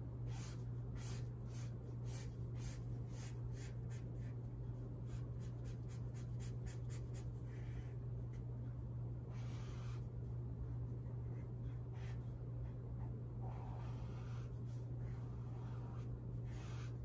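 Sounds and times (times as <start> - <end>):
steady low hum: 0.0 - 17.0
marker scratching on paper: 0.2 - 8.4, 9.3 - 10.2, 11.0 - 17.0.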